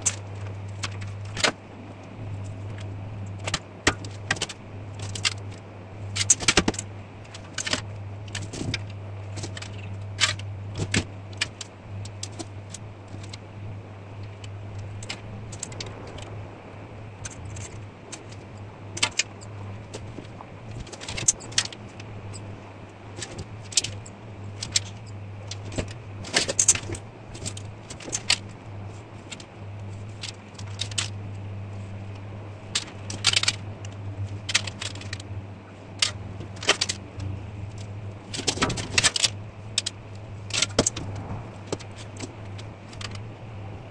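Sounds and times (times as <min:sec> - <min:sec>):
low hum: 0:00.0 - 0:43.9.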